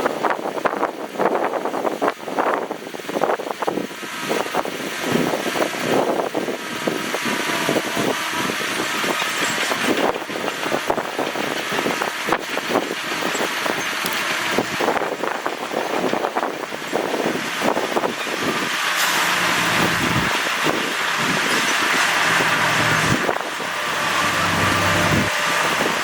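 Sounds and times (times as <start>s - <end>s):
heavy earth-moving machinery: 0.0s - 26.0s.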